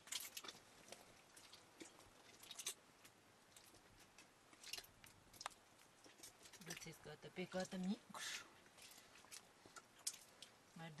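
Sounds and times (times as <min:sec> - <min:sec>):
soft clicks and rustles: 0:00.0 - 0:10.8.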